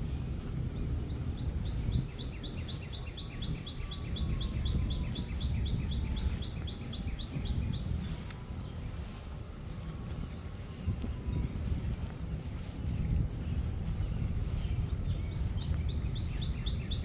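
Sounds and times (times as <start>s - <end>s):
low rumble: 0.0s - 17.0s
songbird singing: 0.0s - 17.0s.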